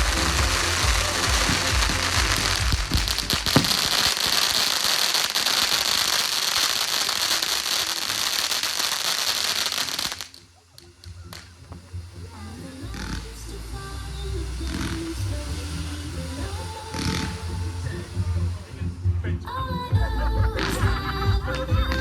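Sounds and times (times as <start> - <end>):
loud firework cracks: 0.0 - 19.0
fireworks crackling: 0.0 - 22.0.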